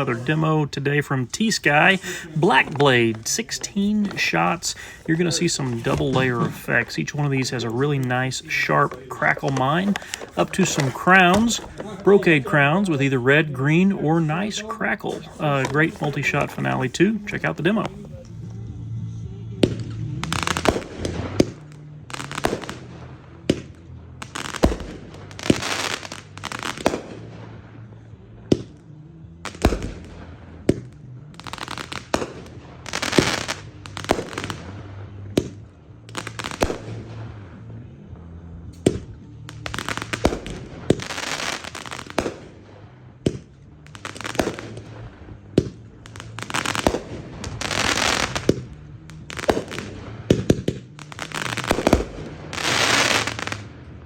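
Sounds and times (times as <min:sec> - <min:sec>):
fireworks crackling: 0:00.0 - 0:54.0
fireworks shots: 0:00.0 - 0:54.0.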